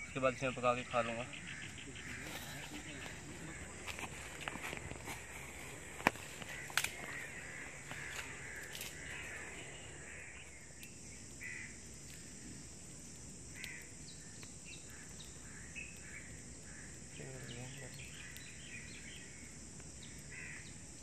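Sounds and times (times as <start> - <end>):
high insect drone: 0.0 - 21.0
twig fire crackling: 0.0 - 21.0
bird cawing: 0.5 - 12.2, 13.5 - 20.8.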